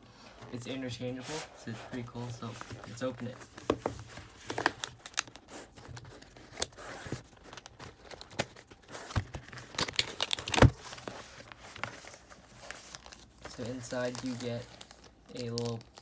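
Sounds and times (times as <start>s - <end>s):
cardboard and plastic rustling: 0.1s - 16.0s.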